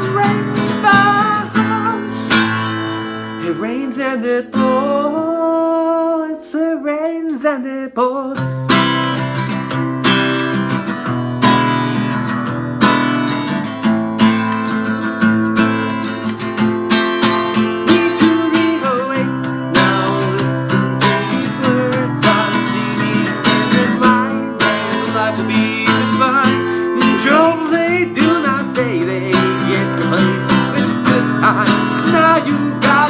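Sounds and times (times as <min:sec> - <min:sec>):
acoustic guitar strumming chords: 0:00.0 - 0:07.5, 0:08.3 - 0:33.0.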